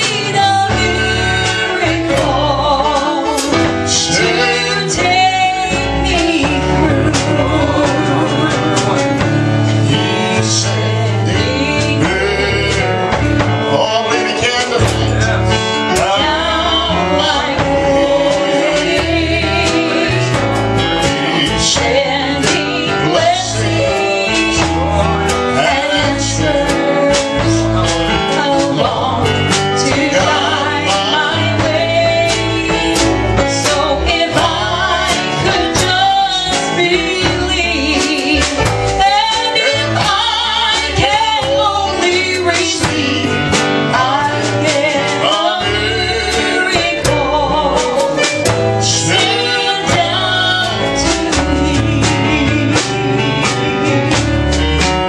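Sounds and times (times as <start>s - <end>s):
guitar playing: 0.0s - 55.0s
man and woman singing duet: 0.0s - 55.0s.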